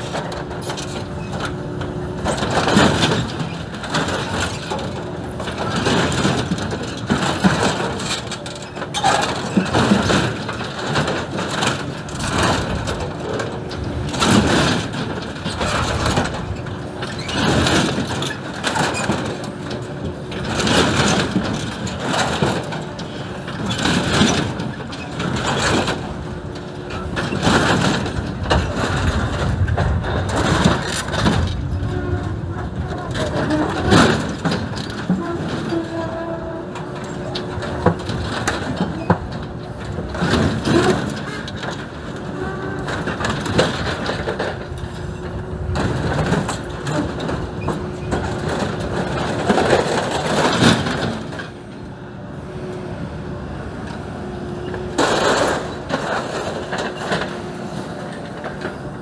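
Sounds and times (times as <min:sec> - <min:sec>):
metal crunching and banging: 0:00.0 - 0:51.6, 0:55.0 - 0:58.8
excavator diesel engine running: 0:00.0 - 0:59.0.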